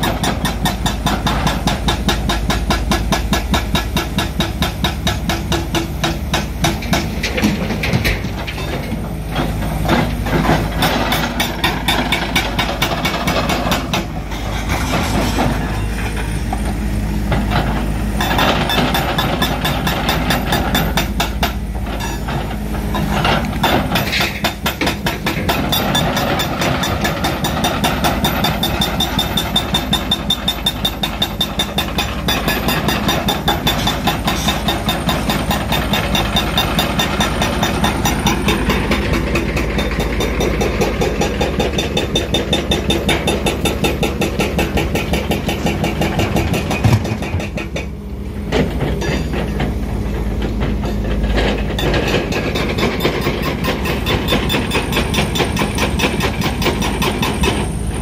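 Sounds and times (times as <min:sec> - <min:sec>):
hydraulic breaker hammering rock: 0:00.0 - 0:16.4, 0:17.3 - 0:58.0
diesel engines running: 0:00.0 - 0:58.0.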